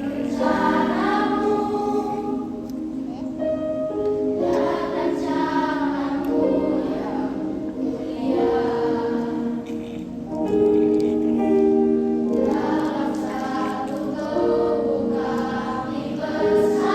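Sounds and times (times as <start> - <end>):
children's choir singing: 0.0 - 16.9.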